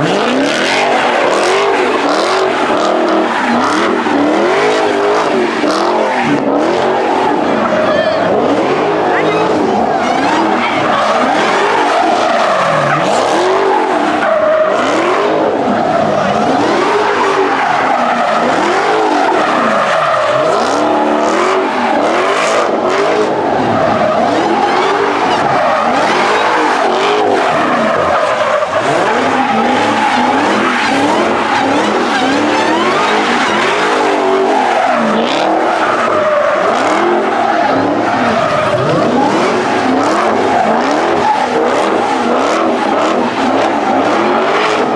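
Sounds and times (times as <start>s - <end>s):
tyres squealing: 0.0s - 22.7s, 23.6s - 44.9s
car engine revving: 0.0s - 44.9s.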